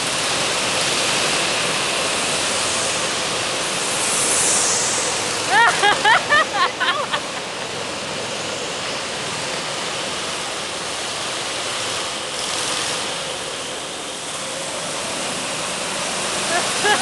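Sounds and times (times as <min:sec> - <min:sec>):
go-kart engines echoing: 0:00.0 - 0:17.0.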